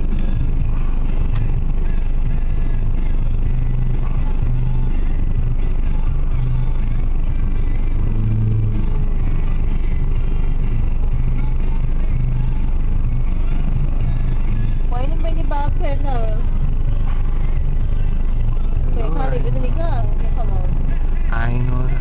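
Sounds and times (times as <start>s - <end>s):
car engine idling: 0.0s - 22.0s
passing vehicles hum: 0.0s - 22.0s
road traffic rumble: 0.0s - 22.0s.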